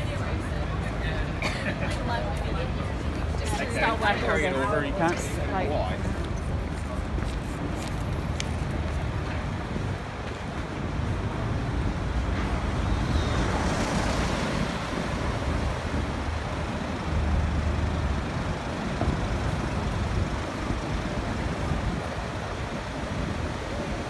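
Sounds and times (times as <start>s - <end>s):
slow city traffic: 0.0s - 24.0s.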